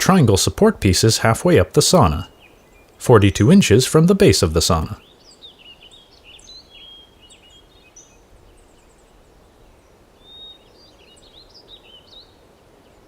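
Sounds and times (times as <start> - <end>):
small birds twittering: 0.2 - 13.0.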